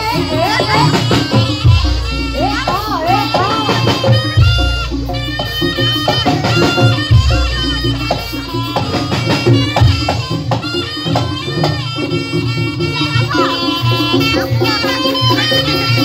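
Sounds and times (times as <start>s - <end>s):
ringing pitched percussion: 0.0s - 16.0s
steady drumming: 0.0s - 16.0s.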